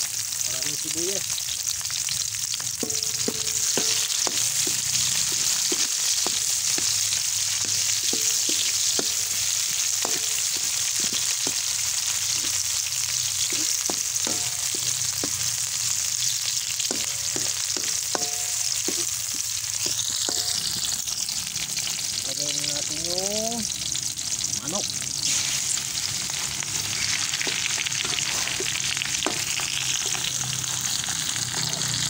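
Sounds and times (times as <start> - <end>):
onion sizzling in hot oil: 0.0 - 32.0
spatula scraping and knocking wok: 1.9 - 22.0, 25.2 - 32.0.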